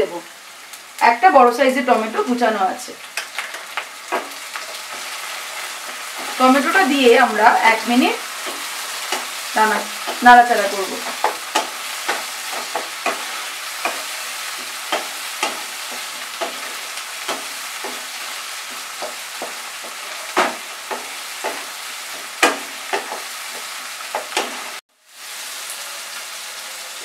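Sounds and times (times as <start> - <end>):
vegetables sizzling in oil: 0.0 - 27.0
spatula scraping and knocking pan: 3.2 - 24.8.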